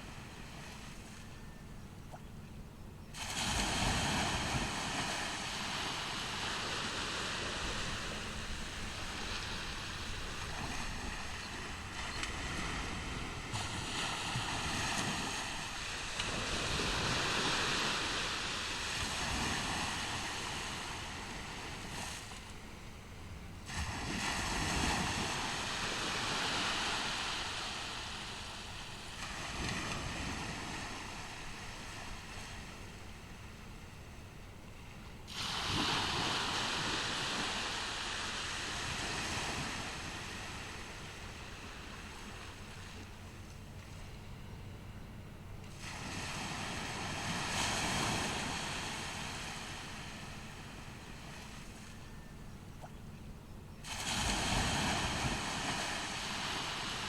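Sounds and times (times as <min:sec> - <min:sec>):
ocean waves washing on beach: 0:00.0 - 0:02.4, 0:03.1 - 0:57.0.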